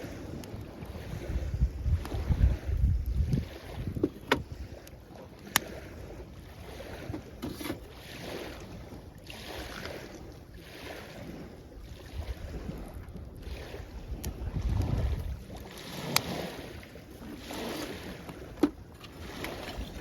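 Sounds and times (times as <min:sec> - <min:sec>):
small waves washing ashore: 0:00.0 - 0:20.0.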